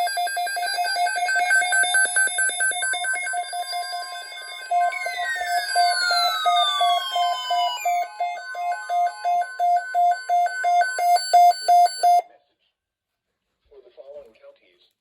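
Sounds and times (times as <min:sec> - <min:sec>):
electronic alert alarm beeping: 0:00.0 - 0:12.2.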